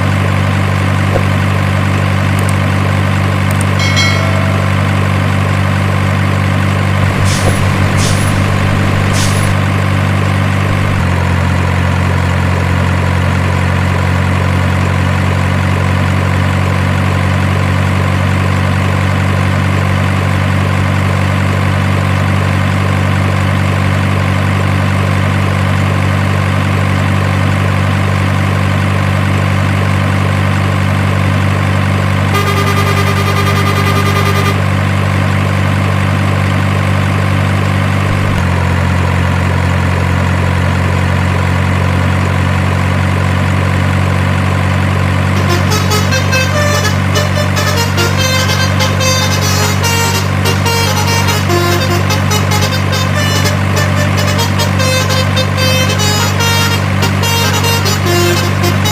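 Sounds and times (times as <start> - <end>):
heavy engine idling: 0.0 - 58.9.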